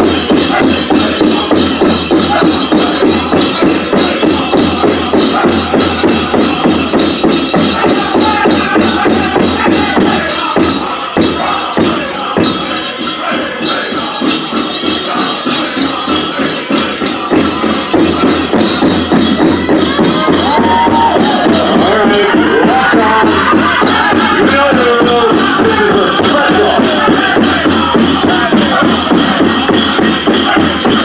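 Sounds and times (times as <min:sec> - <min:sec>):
big drum fast beat: 0:00.0 - 0:31.0
voices singing: 0:00.0 - 0:31.0.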